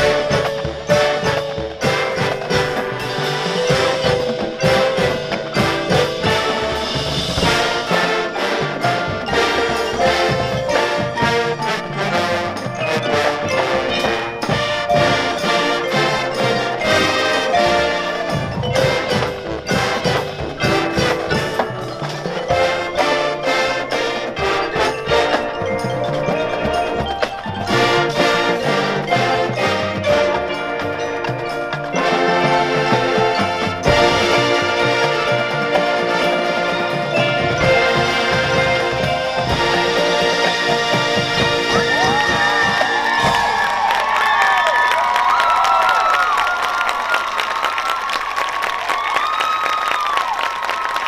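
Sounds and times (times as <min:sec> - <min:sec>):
drum hits: 0:00.0 - 0:44.6
marching band playing: 0:00.0 - 0:51.0
marimbas and mallet percussion: 0:00.0 - 0:51.0.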